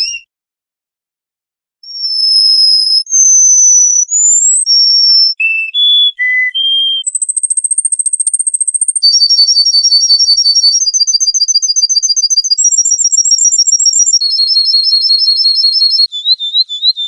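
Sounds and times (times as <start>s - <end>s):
songbird whistled notes: 0.0s - 0.3s, 1.8s - 17.0s
fast high bird trill: 1.9s - 17.0s.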